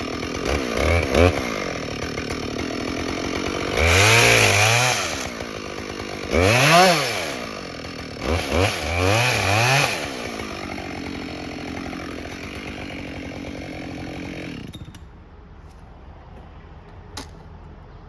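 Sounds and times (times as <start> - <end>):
chainsaw revving: 0.0 - 14.8.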